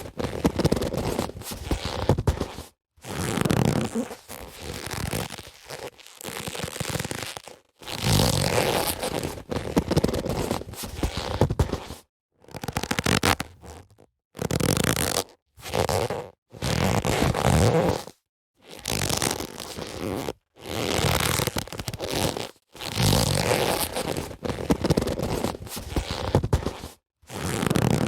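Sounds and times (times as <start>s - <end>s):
boxing gloves creaking: 0.0s - 28.0s.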